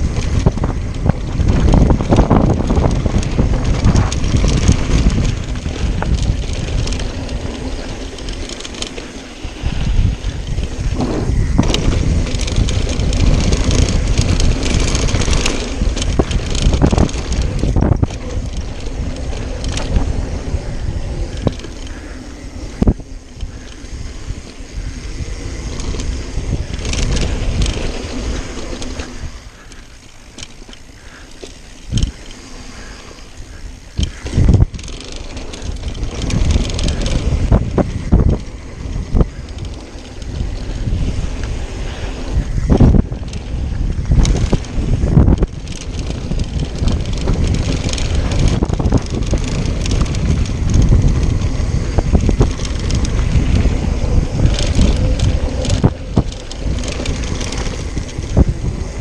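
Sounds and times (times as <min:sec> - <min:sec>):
bike rattling over bumps: 0:00.0 - 0:59.0
bike tyres rolling over dirt: 0:00.0 - 0:59.0
wind rushing across microphone: 0:00.0 - 0:59.0.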